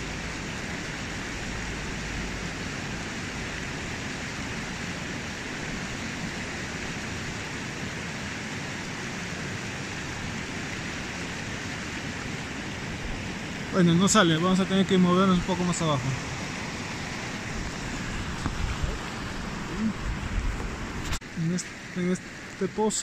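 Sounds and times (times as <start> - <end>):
river water rushing over stones: 0.0 - 23.0.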